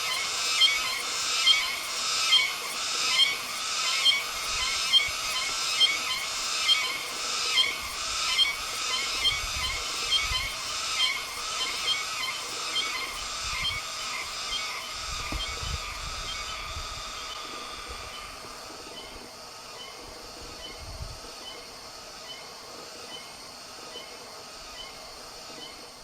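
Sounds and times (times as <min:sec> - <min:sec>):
cicada buzzing song: 0:00.0 - 0:26.0.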